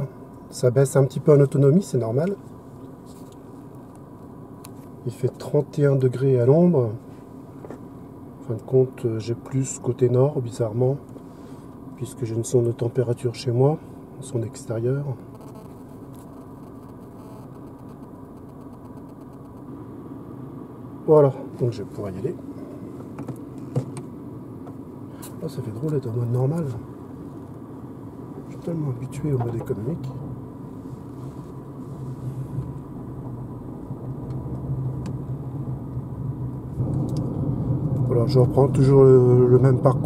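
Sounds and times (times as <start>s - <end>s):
car tyre and running noise: 0.0s - 40.0s
faint steady whine: 0.0s - 40.0s.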